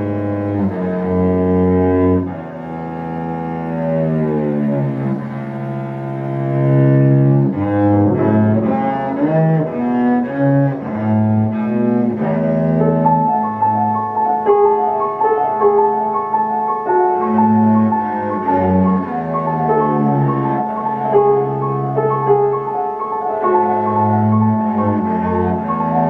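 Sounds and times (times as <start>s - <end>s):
cello bowing low notes: 0.0s - 26.0s
piano accompaniment: 0.0s - 26.0s.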